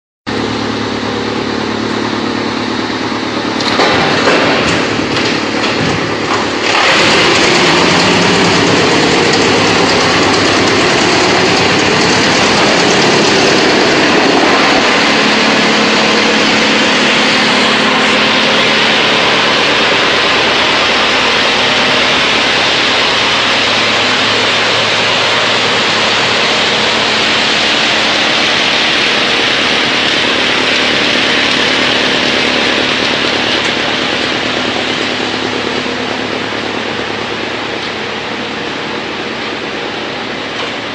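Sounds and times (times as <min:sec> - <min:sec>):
wood chipper chipping wood: 0:00.3 - 0:40.9.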